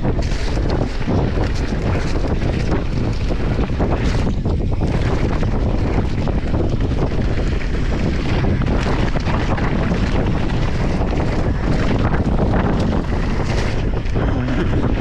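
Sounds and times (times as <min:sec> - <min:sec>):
bike knocking and rattling: 0:00.0 - 0:15.0
tyre noise on rough trail: 0:00.0 - 0:15.0
wind rushing over microphone: 0:00.0 - 0:15.0.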